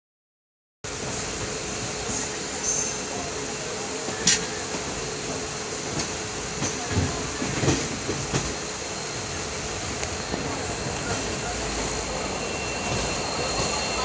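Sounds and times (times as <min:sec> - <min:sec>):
train rumble: 0:00.9 - 0:14.0.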